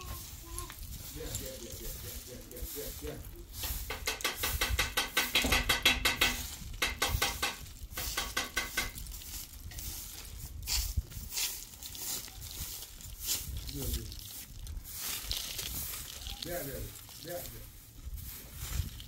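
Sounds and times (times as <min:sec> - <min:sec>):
straw broom sweeping dirt: 0:00.0 - 0:05.4, 0:06.1 - 0:19.0.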